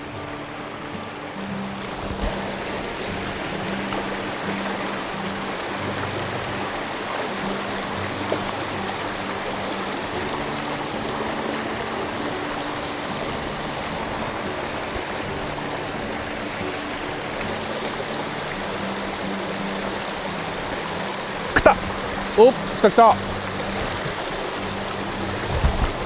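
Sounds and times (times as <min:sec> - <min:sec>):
soft background music: 0:00.0 - 0:26.0
stream water rushing: 0:00.0 - 0:26.0.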